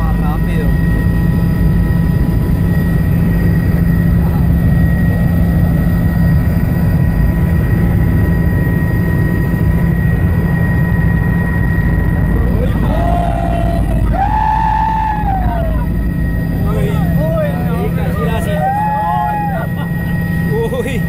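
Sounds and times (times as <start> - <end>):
helicopter engine and rotor drone: 0.0 - 21.0
high whine tones: 0.0 - 21.0.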